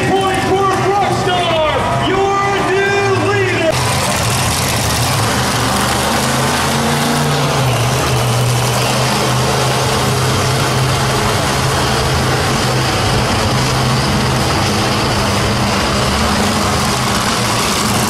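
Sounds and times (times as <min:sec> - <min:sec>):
monster truck engine running: 0:00.0 - 0:18.0.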